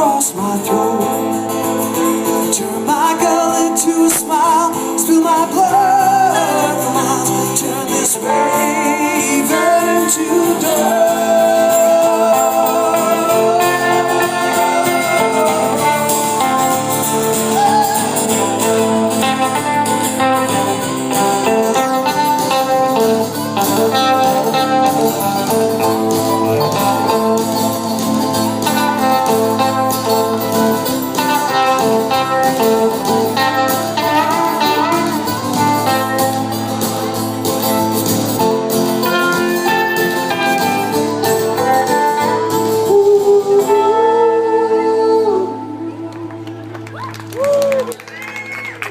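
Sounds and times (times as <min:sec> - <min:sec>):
folk guitar music: 0:00.0 - 0:47.0.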